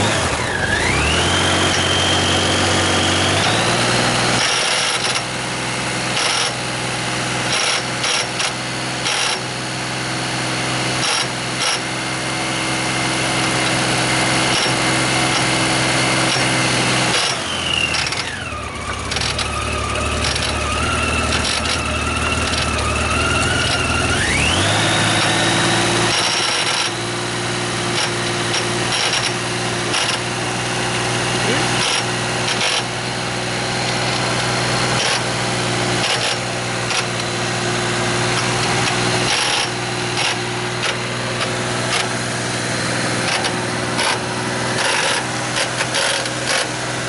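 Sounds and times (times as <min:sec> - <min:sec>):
motorcycle engine running: 0:00.0 - 0:47.0
whining tone: 0:00.0 - 0:47.0.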